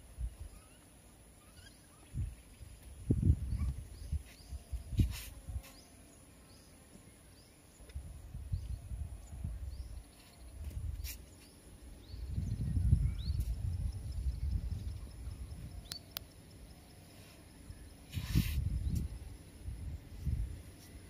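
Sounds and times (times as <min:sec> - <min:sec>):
faint bird chirps: 0:00.0 - 0:19.9
high insect whine: 0:00.0 - 0:21.0.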